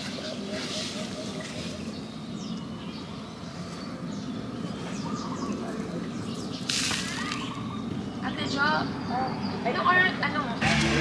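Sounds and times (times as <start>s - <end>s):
faint bird chirps: 0.0s - 10.6s
low outdoor background noise: 0.0s - 11.0s.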